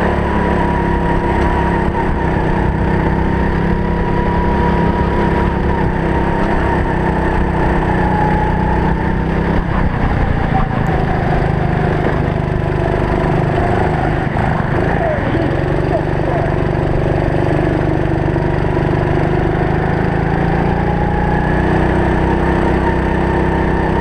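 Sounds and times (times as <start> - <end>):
racing kart engine running hard: 0.0 - 24.0.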